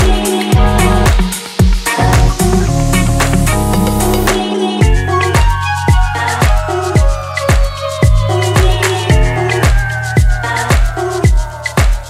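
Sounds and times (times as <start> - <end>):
deep kick drum: 0.0 - 3.9, 4.8 - 12.0
electronic dance music: 0.0 - 12.0.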